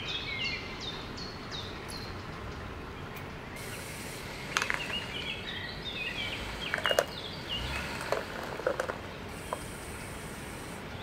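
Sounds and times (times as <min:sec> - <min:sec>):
bird chirping: 0:00.0 - 0:11.0
forest background noise: 0:00.0 - 0:11.0.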